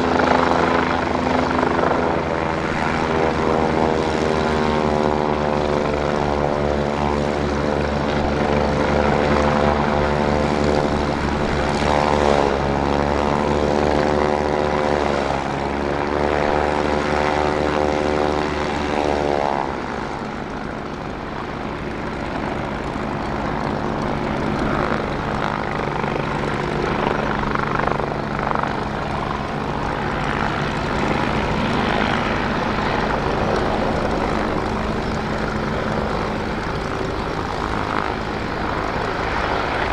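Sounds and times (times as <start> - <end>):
helicopter rotor and engines: 0.0 - 39.9.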